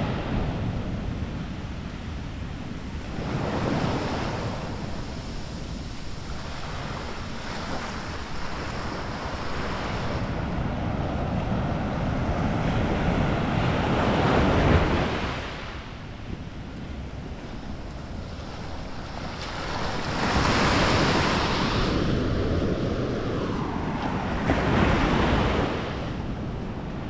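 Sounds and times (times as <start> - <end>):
waves breaking on beach: 0.0 - 27.0
wind rumble on microphone: 0.0 - 27.0.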